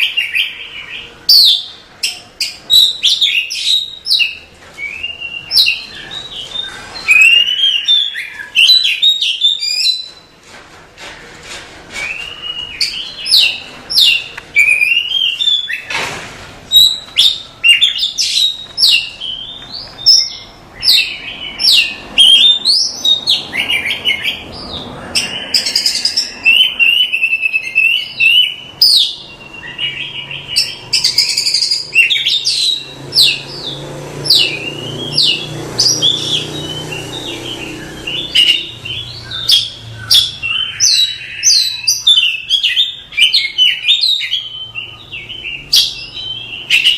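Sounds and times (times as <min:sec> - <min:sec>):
bird singing varied song: 0:00.0 - 0:10.3, 0:12.0 - 0:15.9, 0:16.7 - 0:46.9.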